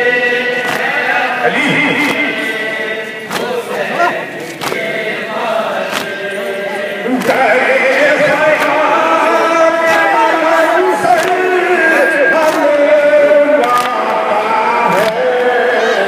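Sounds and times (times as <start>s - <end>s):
sharp rhythmic beats: 0.0s - 15.9s
men chanting in unison: 0.0s - 16.0s.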